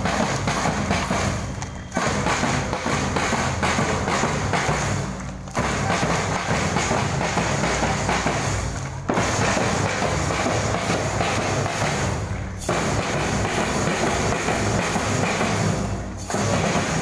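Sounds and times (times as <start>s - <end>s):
marching drums beat: 0.0s - 17.0s.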